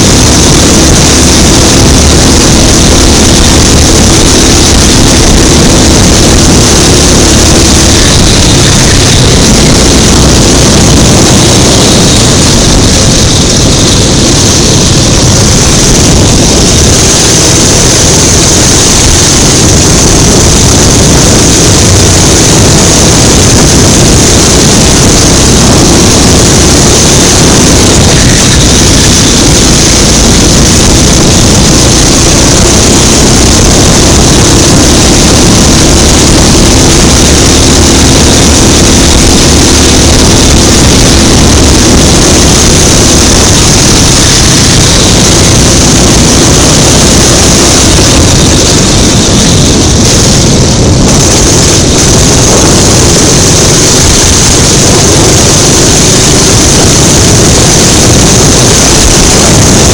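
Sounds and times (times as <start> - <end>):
go-kart engine racing: 0.0 - 59.9
steady rush of noise: 0.0 - 59.9.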